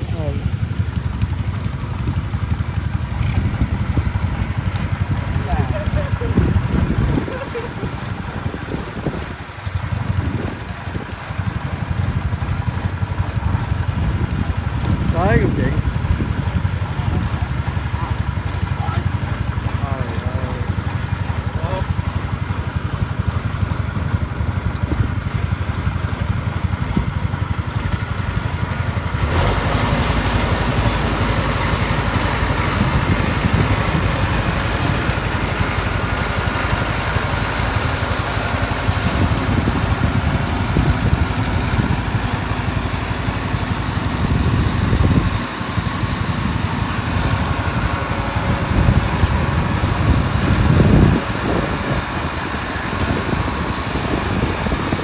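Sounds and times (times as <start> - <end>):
harvester engine running: 0.0 - 55.0.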